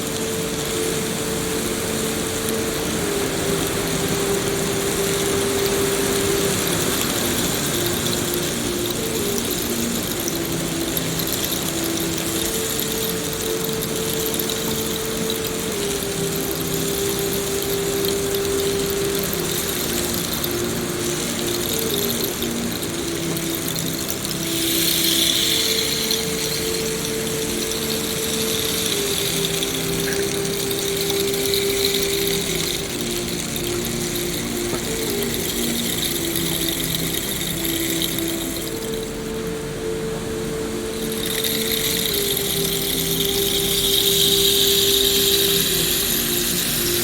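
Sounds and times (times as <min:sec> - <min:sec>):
low ambient drone tones: 0:00.0 - 0:47.0
rain hiss: 0:00.0 - 0:47.0.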